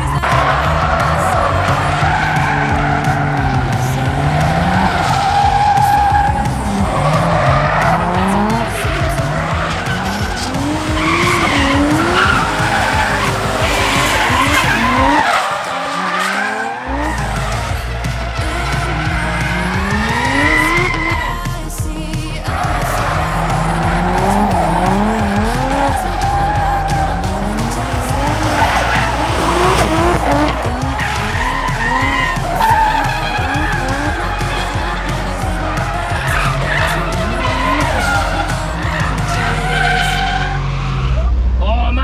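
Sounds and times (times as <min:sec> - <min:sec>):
car engines revving: 0:00.0 - 0:42.0
tyres skidding: 0:00.0 - 0:42.0.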